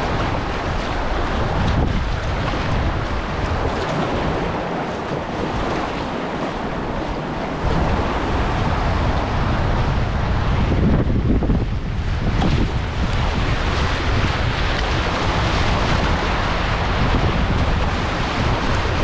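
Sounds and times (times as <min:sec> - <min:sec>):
river rapids rushing: 0:00.0 - 0:10.4, 0:12.8 - 0:19.0
paddle splashes: 0:00.0 - 0:10.7, 0:12.0 - 0:19.0
wind buffeting microphone: 0:00.0 - 0:19.0.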